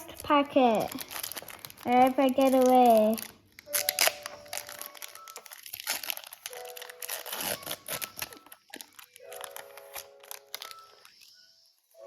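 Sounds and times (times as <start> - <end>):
foil wrapper crinkling and tearing: 0.0 - 11.5
soft background music: 0.0 - 12.0.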